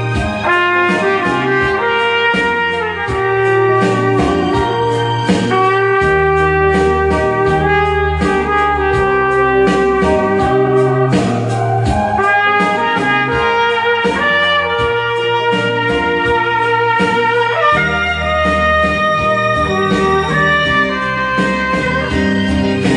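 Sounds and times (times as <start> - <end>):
bass line and steady beat: 0.0 - 22.9
trumpet melody: 0.0 - 22.9.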